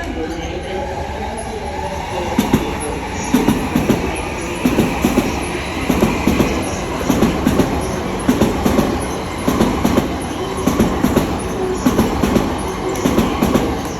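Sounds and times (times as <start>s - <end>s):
train rumbling on rails: 0.0s - 13.9s.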